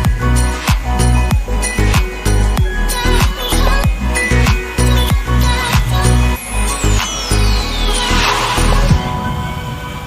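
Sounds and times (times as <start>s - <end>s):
electronic music with beat: 0.0s - 9.3s.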